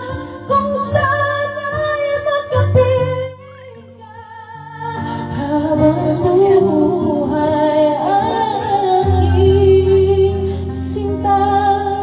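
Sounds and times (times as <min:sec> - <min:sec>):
woman singing into microphone: 0:00.0 - 0:12.0.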